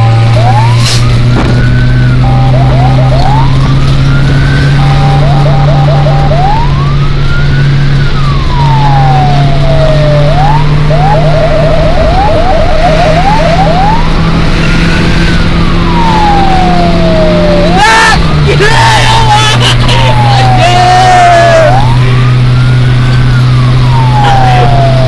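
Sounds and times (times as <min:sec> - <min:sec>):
electronic siren wailing and yelping: 0:00.0 - 0:25.0
vehicle engine drone: 0:00.0 - 0:25.0.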